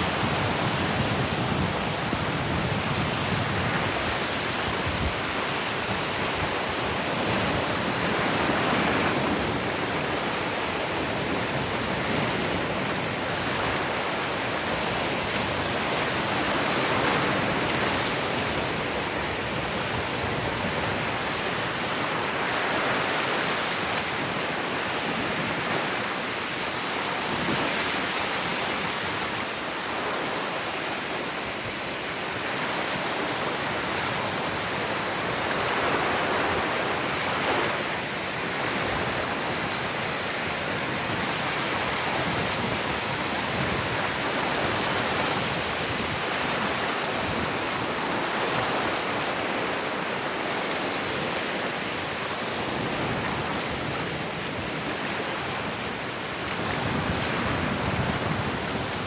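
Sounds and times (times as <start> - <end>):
ocean waves washing onto beach: 0.0 - 59.0.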